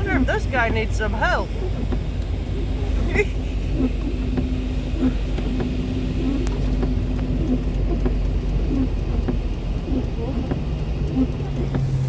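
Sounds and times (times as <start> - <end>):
truck engine and tyres rumbling: 0.0 - 12.0
faint regular clicks: 0.1 - 12.0.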